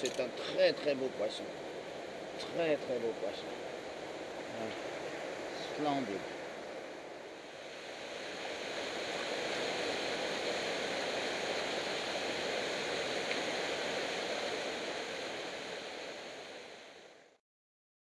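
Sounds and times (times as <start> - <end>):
waterfall rushing: 0.0 - 17.2.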